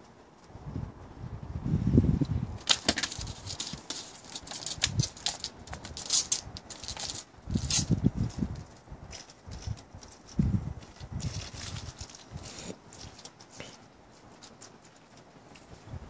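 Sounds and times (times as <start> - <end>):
cat claws scrabbling on brick: 2.1 - 15.7.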